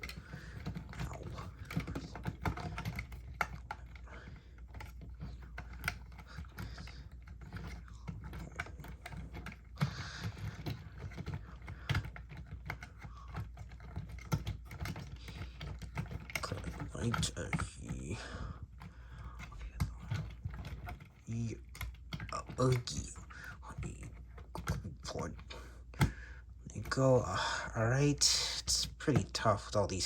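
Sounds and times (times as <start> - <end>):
plastic pieces clicking: 0.0 - 30.0.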